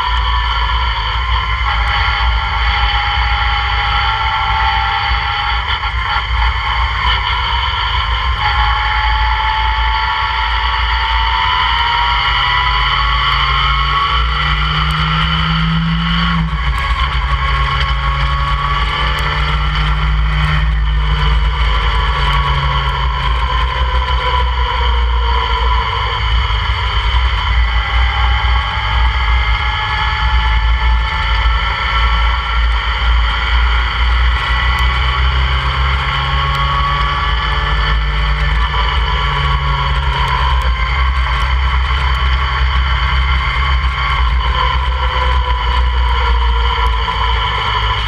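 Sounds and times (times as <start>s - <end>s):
sports car engine accelerating: 0.0s - 48.0s
wind and road noise rumble: 0.0s - 48.0s.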